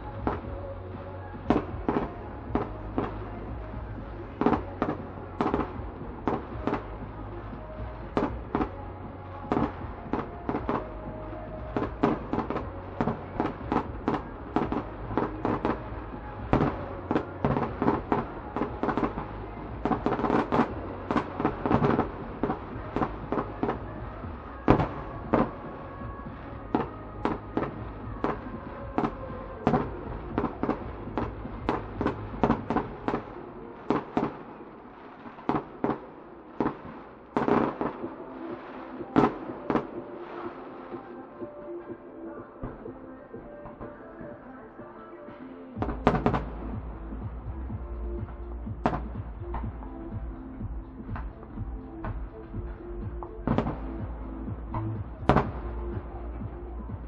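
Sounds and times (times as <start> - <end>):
fireworks bursting with sharp bangs: 0.0 - 57.0.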